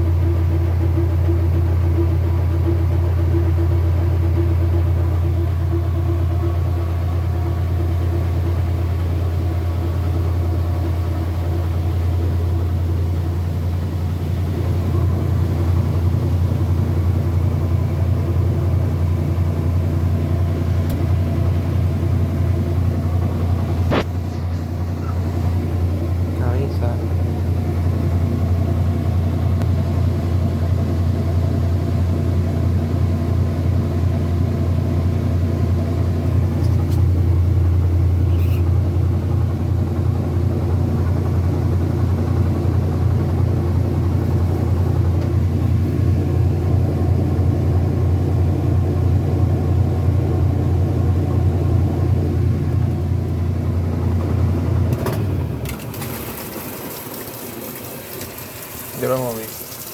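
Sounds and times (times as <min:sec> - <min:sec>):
washing machine humming: 0:00.0 - 0:59.9.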